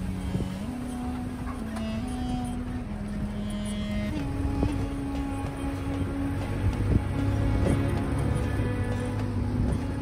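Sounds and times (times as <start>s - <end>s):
background music with held notes: 0.0s - 10.0s
vehicle engine on sandy track: 0.0s - 10.0s.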